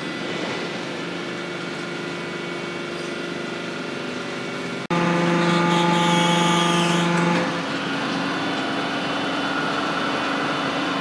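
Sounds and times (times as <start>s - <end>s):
hydraulic baler humming: 0.0s - 11.0s.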